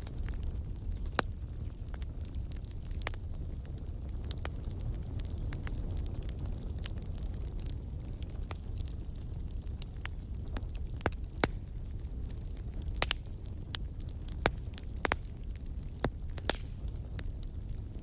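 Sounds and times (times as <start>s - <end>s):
fire pops and snaps: 0.0s - 18.0s
low rumble of burning fire: 0.0s - 18.0s
wood fire crackling: 0.0s - 18.0s.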